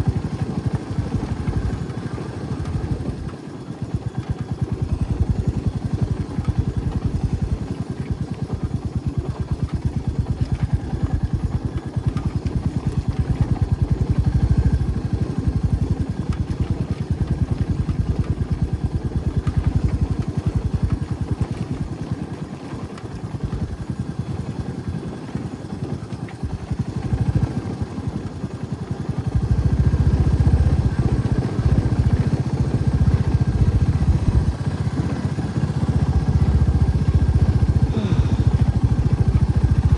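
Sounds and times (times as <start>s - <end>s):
motorcycle engine running: 0.0s - 24.0s, 25.3s - 39.9s.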